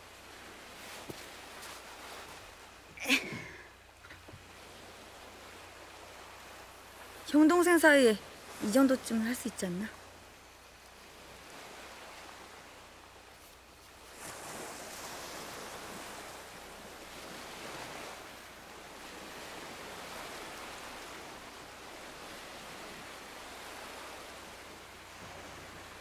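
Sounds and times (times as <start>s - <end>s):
ocean surf on beach: 0.0s - 26.0s.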